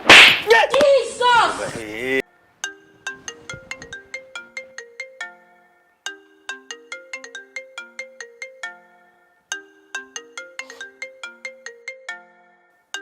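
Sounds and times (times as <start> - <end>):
phone ringtone melody: 2.2 - 13.0.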